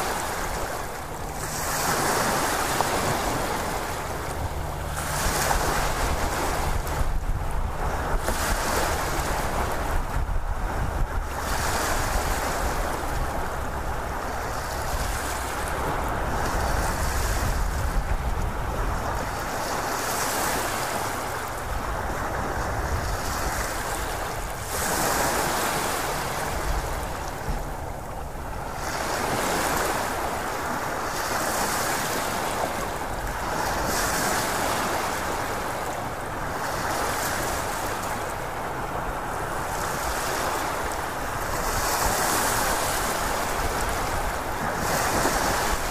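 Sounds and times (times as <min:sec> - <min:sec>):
ocean waves washing: 0:00.0 - 0:45.9.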